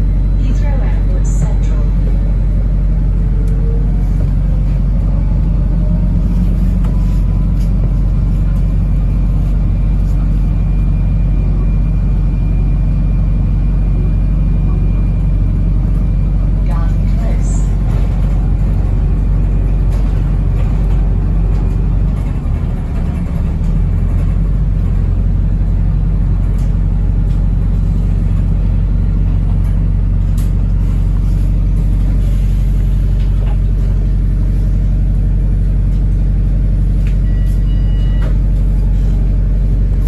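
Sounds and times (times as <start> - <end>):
bus interior low drone: 0.0 - 40.0.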